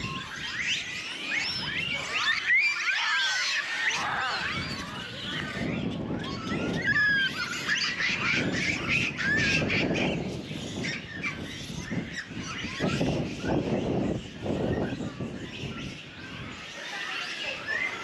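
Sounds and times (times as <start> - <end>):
monkeys cooing and squeaking: 0.0 - 18.0.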